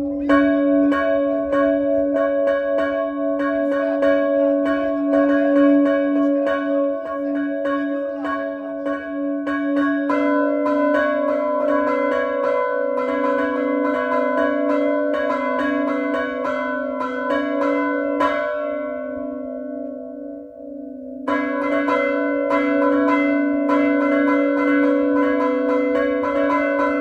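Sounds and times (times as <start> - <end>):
church bells ringing: 0.0 - 27.0.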